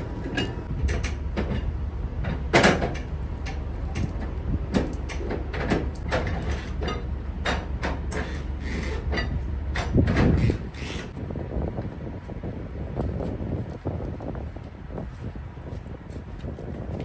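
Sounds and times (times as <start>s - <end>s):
low rumble: 0.0s - 15.6s.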